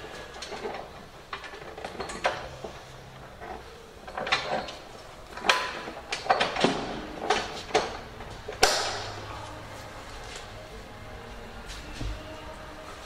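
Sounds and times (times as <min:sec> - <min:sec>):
metal rigging hardware clanking: 0:00.0 - 0:10.7.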